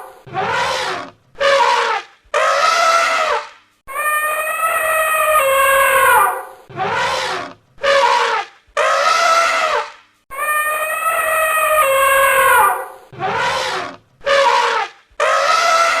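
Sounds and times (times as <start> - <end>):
elephant trumpeting: 0.0 - 16.0.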